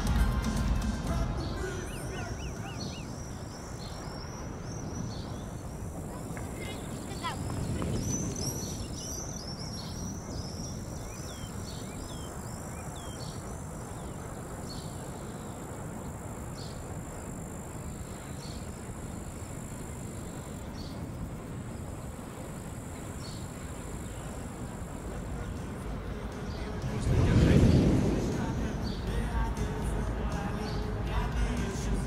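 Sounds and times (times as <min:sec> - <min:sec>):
birds chirping: 0:00.0 - 0:32.0
wind rush: 0:00.0 - 0:32.0.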